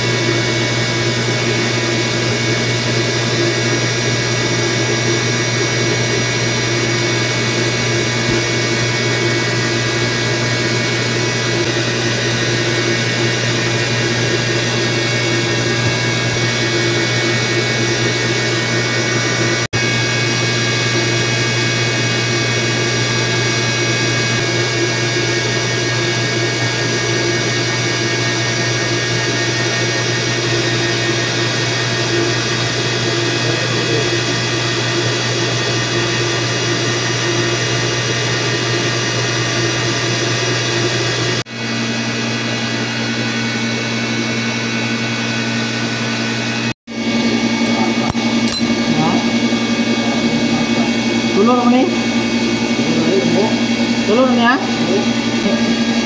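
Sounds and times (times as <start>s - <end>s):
electric motor pumps humming: 0.0s - 56.0s.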